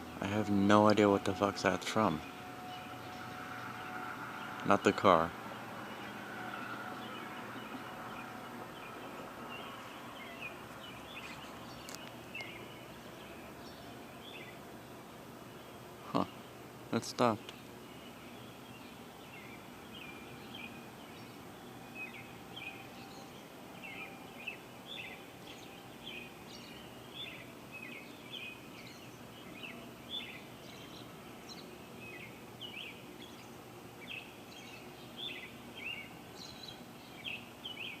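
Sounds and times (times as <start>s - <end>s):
outdoor background hiss: 0.0s - 38.0s
small birds chirping: 0.0s - 38.0s.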